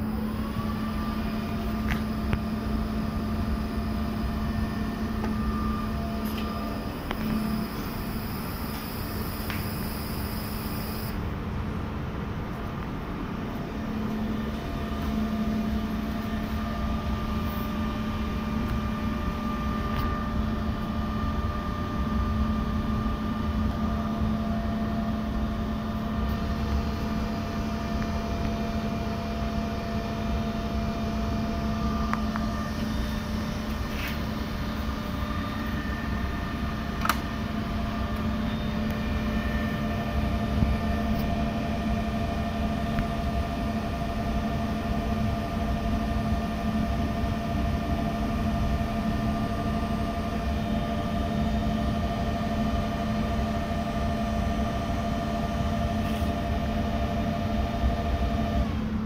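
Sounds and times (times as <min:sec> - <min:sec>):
machine hum with high whine: 0:00.0 - 0:59.0.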